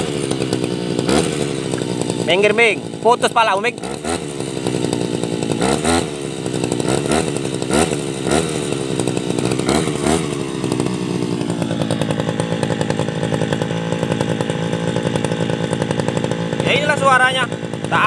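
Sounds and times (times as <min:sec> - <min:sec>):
brush cutter engine revving: 0:00.0 - 0:18.0.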